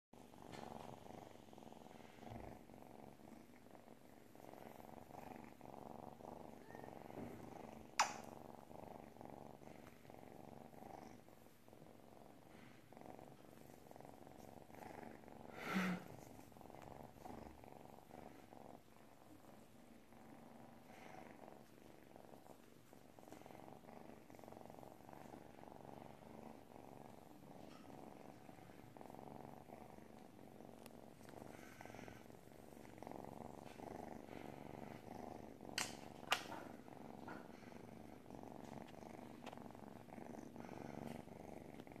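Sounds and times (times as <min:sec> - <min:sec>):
kitten purring: 0:00.2 - 0:42.0.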